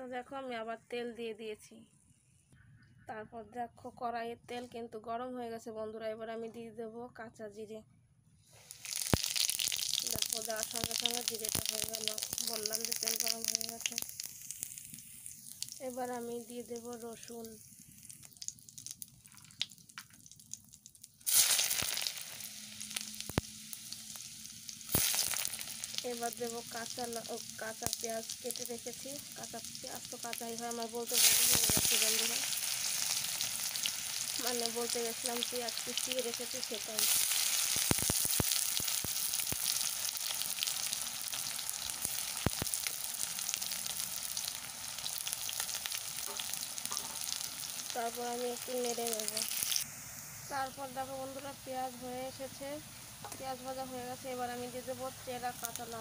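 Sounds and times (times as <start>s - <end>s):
loud sizzle with pops: 8.5s - 56.0s
seeds crackling in hot oil: 8.5s - 56.0s.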